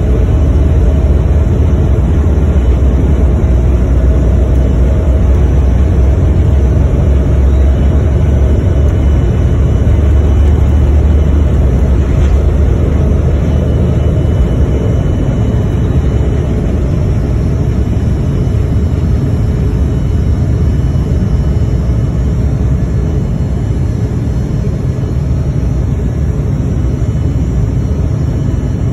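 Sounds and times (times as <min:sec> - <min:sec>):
deep runway rumble: 0:00.0 - 0:28.9
jet engines at takeoff thrust: 0:00.0 - 0:28.9.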